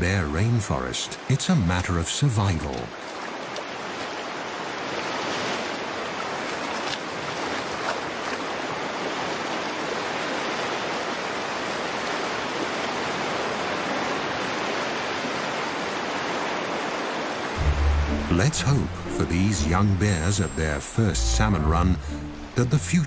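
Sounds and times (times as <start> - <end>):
rushing stream water: 0.0 - 23.0.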